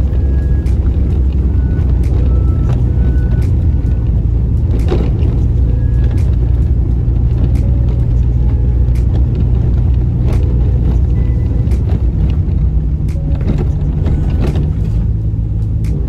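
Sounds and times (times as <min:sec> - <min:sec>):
car rumbling on dirt road: 0:00.0 - 0:16.0.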